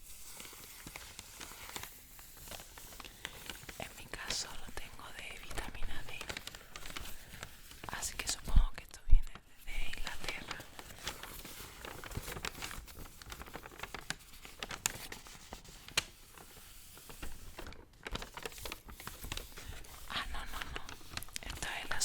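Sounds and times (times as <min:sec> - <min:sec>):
paper crinkling: 0:00.0 - 0:22.0.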